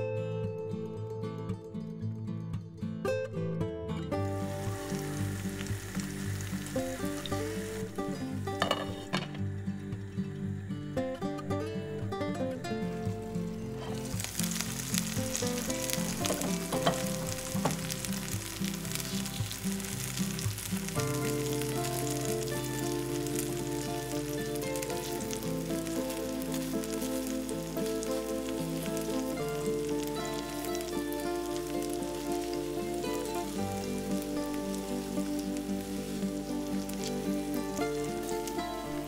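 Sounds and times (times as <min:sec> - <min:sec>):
background music: 0:00.0 - 0:39.0
food sizzling in a frying pan: 0:04.2 - 0:39.0.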